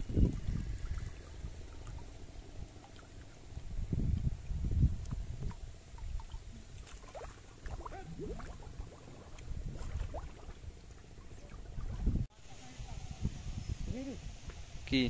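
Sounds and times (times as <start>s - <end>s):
water sloshing and splashing: 0.0s - 12.3s.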